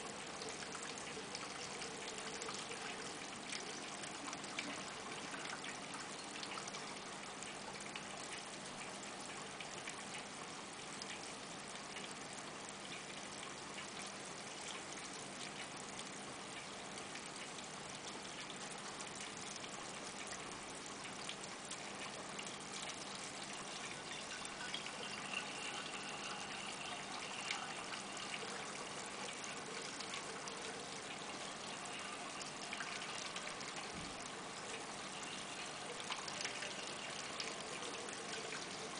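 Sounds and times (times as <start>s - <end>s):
aquarium water trickling and bubbling: 0.0s - 38.9s
faint steady hum: 0.0s - 38.9s.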